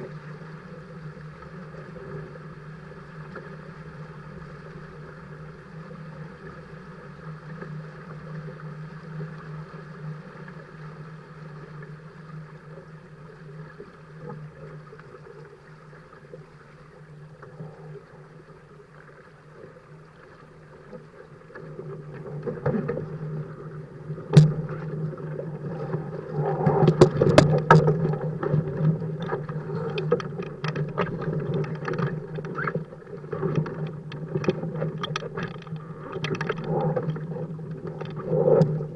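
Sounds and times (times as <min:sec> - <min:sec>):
water splashes: 0:00.0 - 0:38.9.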